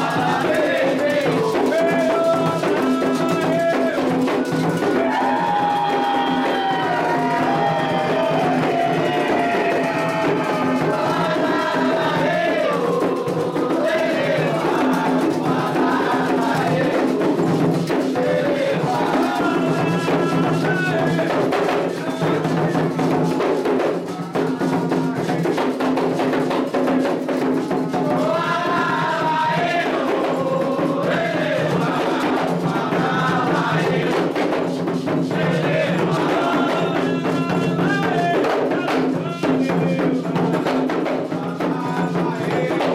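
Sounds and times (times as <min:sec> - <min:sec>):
hand drums beating: 0:00.0 - 0:42.9
people singing: 0:00.0 - 0:42.9
struck percussion: 0:00.0 - 0:42.9.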